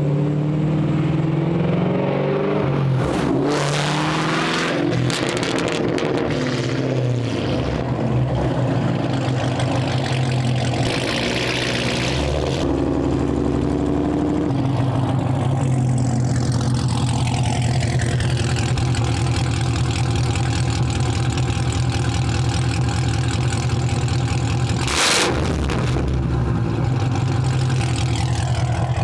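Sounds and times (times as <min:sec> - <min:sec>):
car engine idling loudly: 0:04.9 - 0:29.0.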